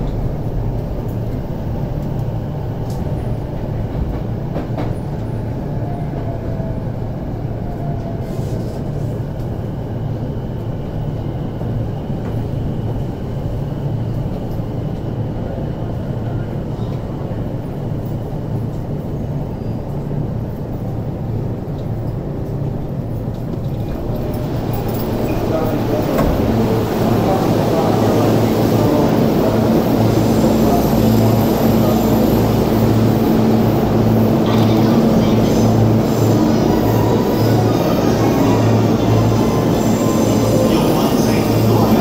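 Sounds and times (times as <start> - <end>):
train interior rumble and hum: 0.0 - 42.0.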